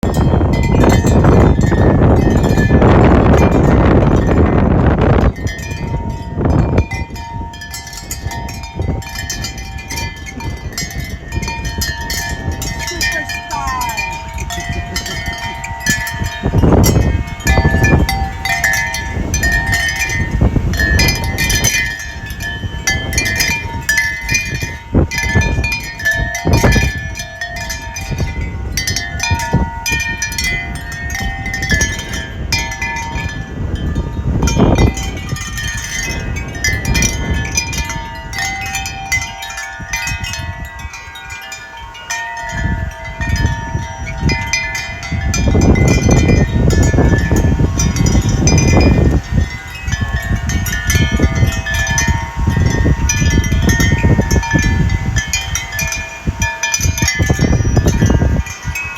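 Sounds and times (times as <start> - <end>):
wind buffeting microphone: 0.0 - 58.9
wind chimes ringing: 0.0 - 58.9.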